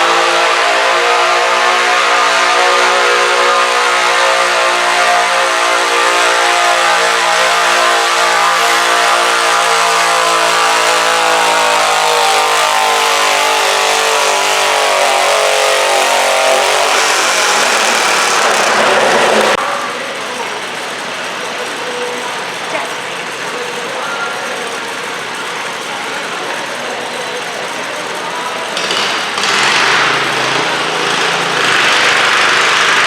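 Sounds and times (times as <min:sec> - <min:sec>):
tractor engine under load: 0:01.8 - 0:33.0.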